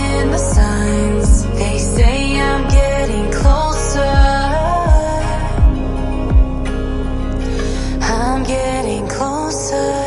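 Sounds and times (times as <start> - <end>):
background pop music: 0.0 - 10.0.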